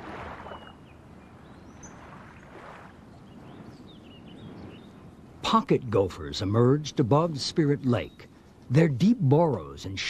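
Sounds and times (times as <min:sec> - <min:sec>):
small birds chirping: 0:00.4 - 0:02.1, 0:03.0 - 0:10.0.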